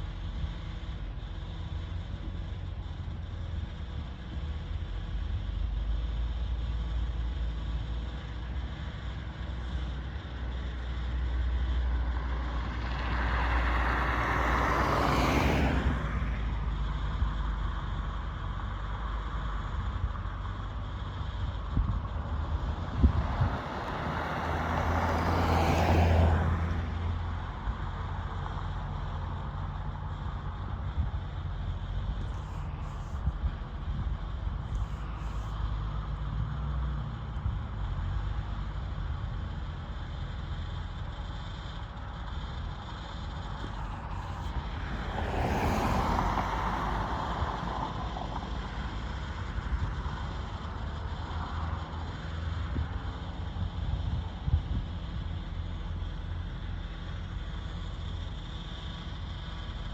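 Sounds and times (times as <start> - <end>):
steady low rumble: 0.0 - 59.9
vehicles passing: 0.0 - 59.9.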